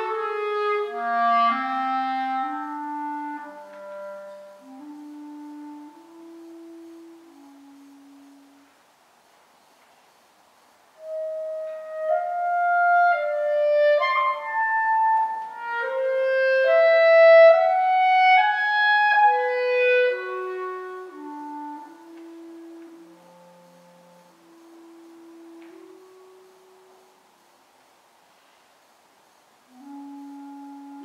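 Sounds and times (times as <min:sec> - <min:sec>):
clarinet solo: 0:00.0 - 0:08.8, 0:11.0 - 0:27.3, 0:29.6 - 0:31.0.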